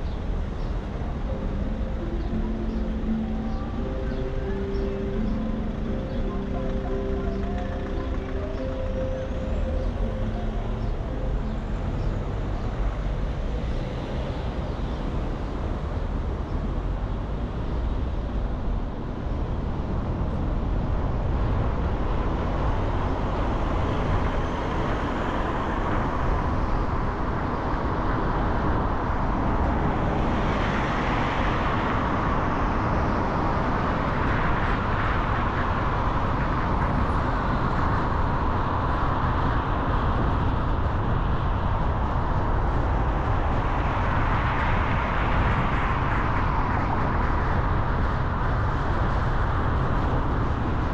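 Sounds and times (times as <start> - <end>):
car engine and tyre noise: 0.0 - 50.9.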